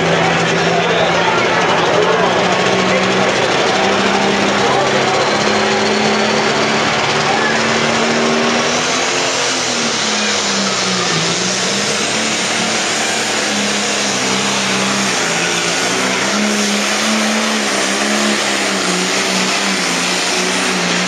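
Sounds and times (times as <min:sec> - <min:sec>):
diesel engine running under heavy load: 0:00.0 - 0:21.0.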